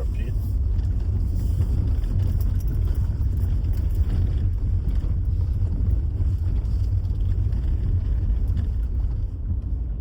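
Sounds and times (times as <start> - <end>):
low rumble: 0.0 - 10.0
wind buffeting microphone: 0.0 - 10.0.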